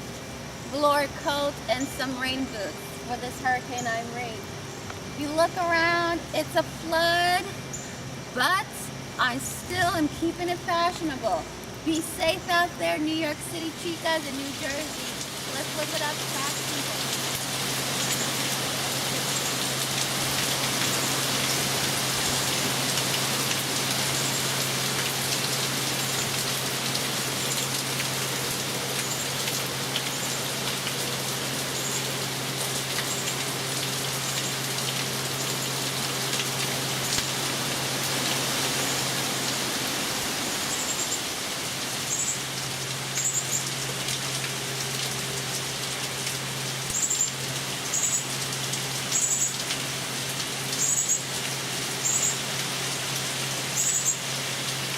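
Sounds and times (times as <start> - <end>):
heavy rain falling: 9.2 - 54.9.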